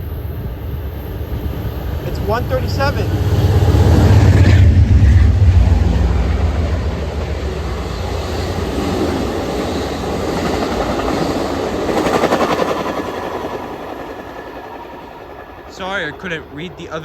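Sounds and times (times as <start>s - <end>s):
diesel locomotive rumble: 0.0s - 17.0s
train wheels rumbling on rails: 0.0s - 17.0s.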